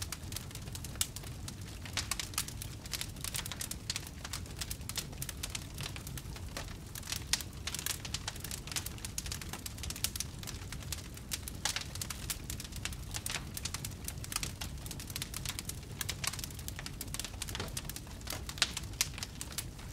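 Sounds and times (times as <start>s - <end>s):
low rumble of flames: 0.0s - 19.9s
wood fire crackling and popping: 0.0s - 19.9s.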